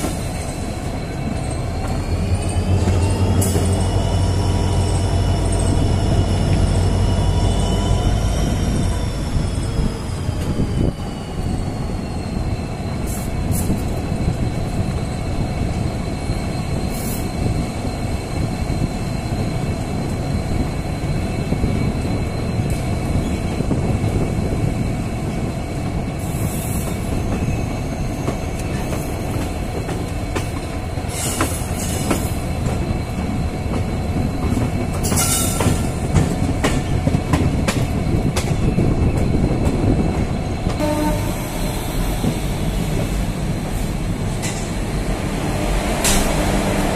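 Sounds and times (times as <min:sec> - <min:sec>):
train engine and wheels rumbling: 0:00.0 - 0:46.9.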